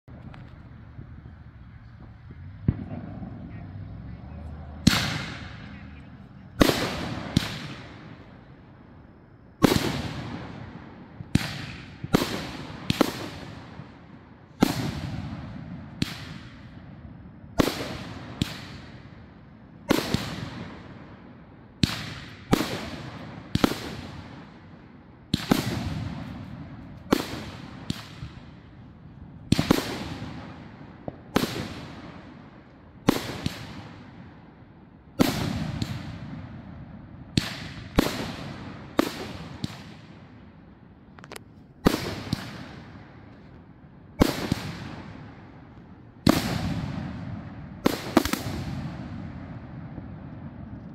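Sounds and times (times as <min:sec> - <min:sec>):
firework bangs: 0:00.1 - 0:08.7, 0:09.3 - 0:34.5, 0:35.1 - 0:50.9.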